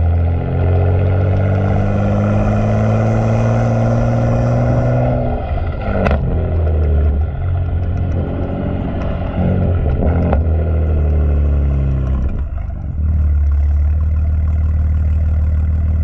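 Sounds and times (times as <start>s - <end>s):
car exhaust droning: 0.0s - 16.0s
exhaust crack: 0.0s - 16.0s.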